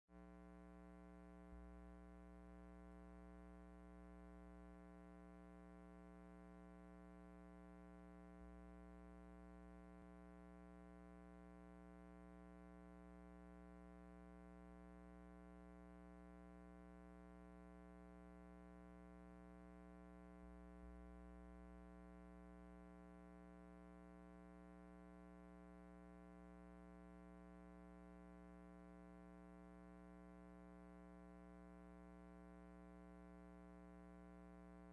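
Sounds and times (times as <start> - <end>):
faint steady hum: 0.2 - 34.9.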